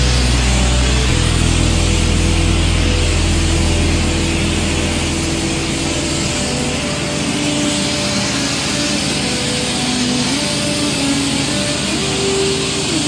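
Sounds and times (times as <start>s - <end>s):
abrasive blasting hiss: 0.0s - 13.0s.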